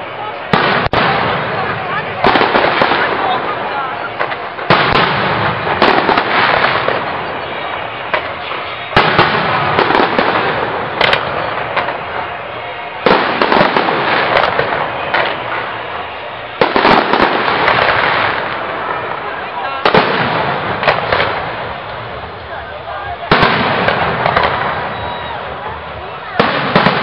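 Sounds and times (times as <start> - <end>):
firework crackling: 0.0 - 27.0.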